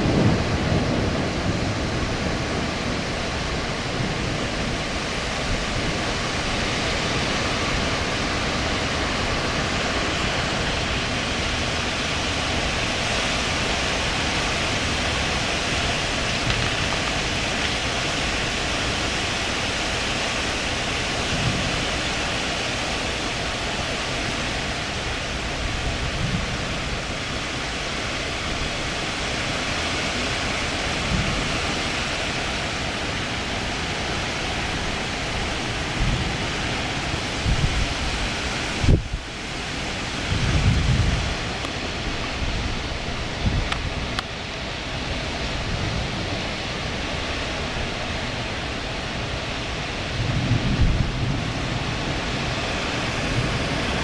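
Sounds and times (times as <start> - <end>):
wind rumbling on microphone: 0.0 - 54.0
wind rushing through leaves: 0.0 - 54.0.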